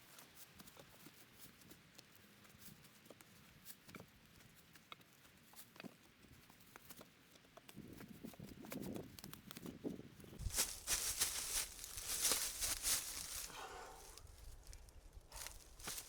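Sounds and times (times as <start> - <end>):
soft rustling and crunching: 0.0 - 16.0.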